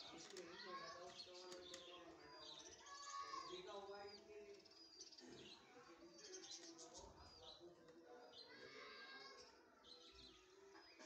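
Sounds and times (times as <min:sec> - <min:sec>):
low background murmur: 0:00.0 - 0:11.0.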